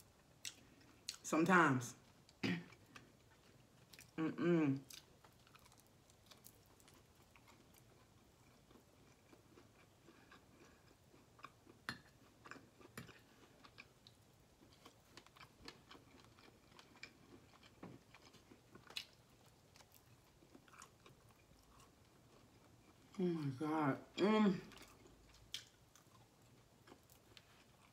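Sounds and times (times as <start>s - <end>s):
person chewing: 0.2s - 1.2s, 2.1s - 23.2s, 24.7s - 27.9s.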